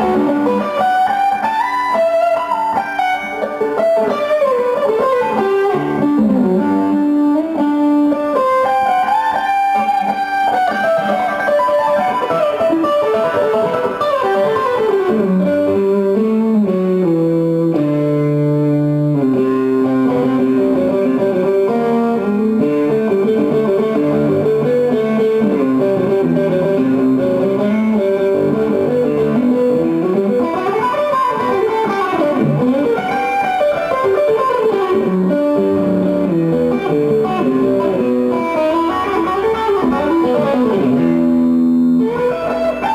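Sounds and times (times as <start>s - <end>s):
plucked guitar melody: 0.0s - 42.9s.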